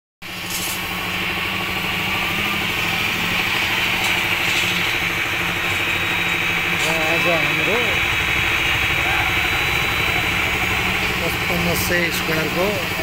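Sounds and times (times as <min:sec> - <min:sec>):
machine engine humming with whine: 0:00.2 - 0:13.0.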